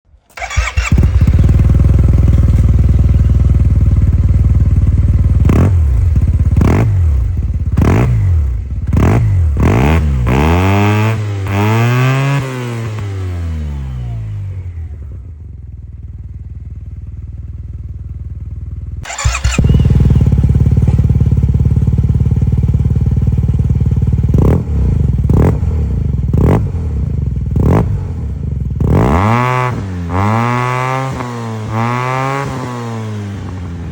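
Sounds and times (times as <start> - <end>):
scooter engine revving: 0.3 - 15.5, 19.0 - 33.9.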